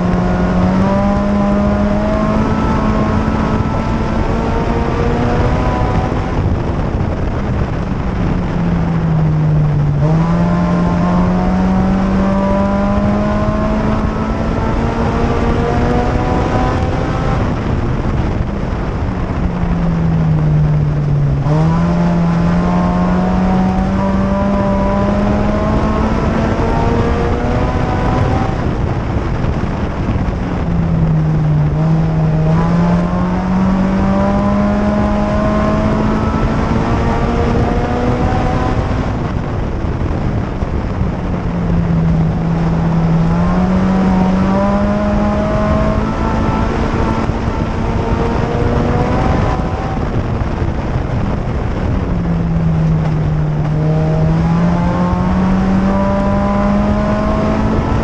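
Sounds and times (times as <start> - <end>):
race car engine: 0.0 - 58.0
road and wind noise: 0.0 - 58.0.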